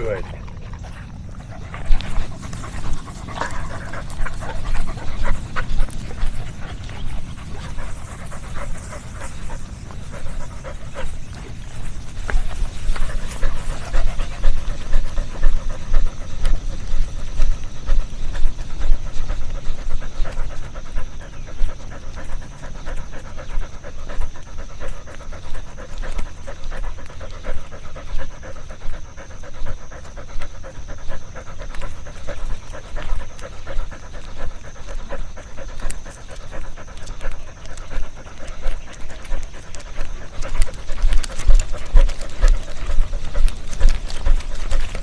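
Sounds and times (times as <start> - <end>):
dog panting rapidly: 0.0 - 45.0.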